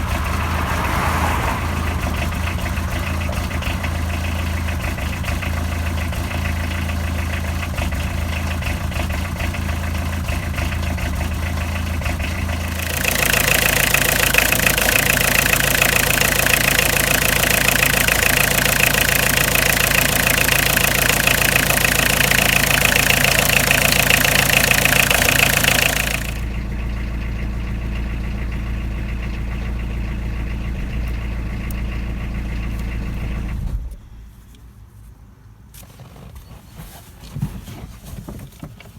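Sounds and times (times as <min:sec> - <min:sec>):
diesel engine idling and revving: 0:00.0 - 0:34.3.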